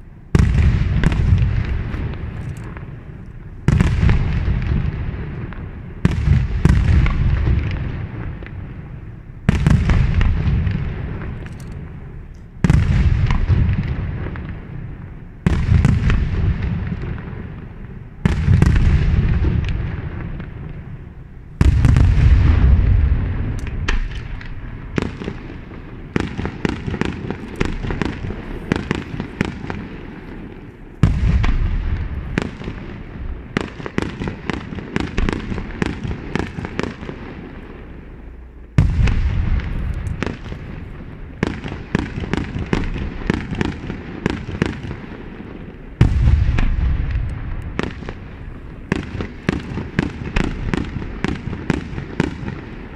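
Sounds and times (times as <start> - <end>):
firework shells booming: 0.0 - 52.9
rumble and crackle: 0.0 - 52.9
sharp firework cracks: 0.0 - 52.9.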